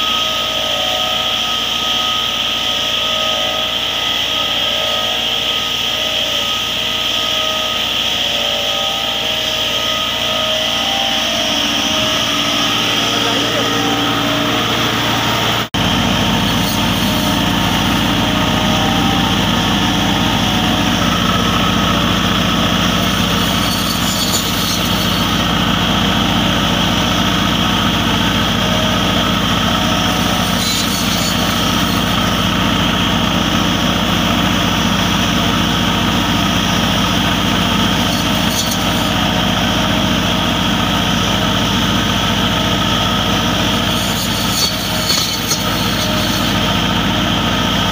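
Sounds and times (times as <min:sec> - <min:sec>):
hedge cutter blades: 0:00.0 - 0:47.9
tractor diesel engine running: 0:07.8 - 0:47.9.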